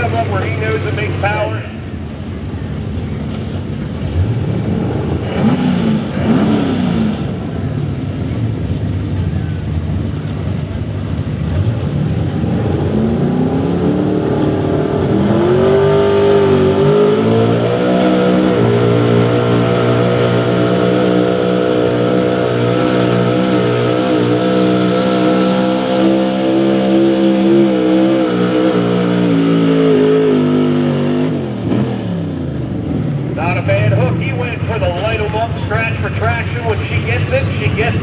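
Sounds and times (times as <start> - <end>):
truck engine revving hard: 0.0 - 2.0, 2.8 - 38.0.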